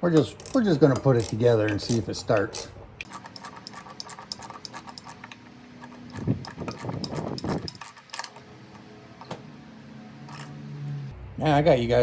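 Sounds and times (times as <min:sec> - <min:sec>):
small parts and tools clicking: 0:00.1 - 0:10.7
scraping: 0:00.6 - 0:11.1.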